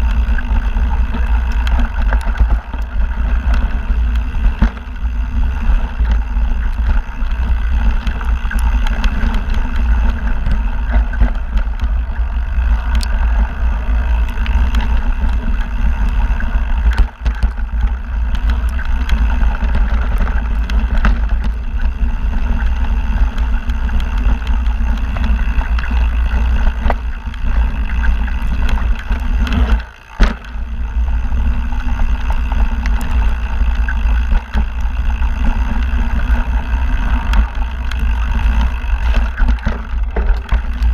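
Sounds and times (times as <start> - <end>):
bike rattling clicks: 0.0 - 40.9
wind and tyre rumble: 0.0 - 40.9.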